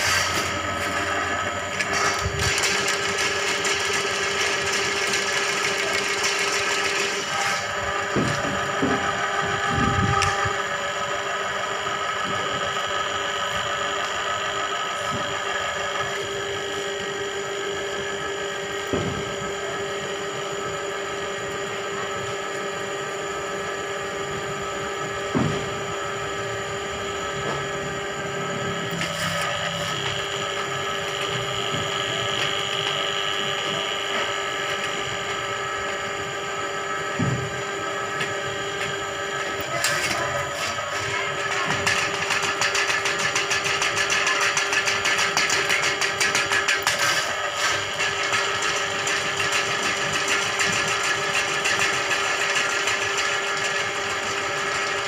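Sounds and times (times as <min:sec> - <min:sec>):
drain-cleaning machine running: 0:00.0 - 0:55.0.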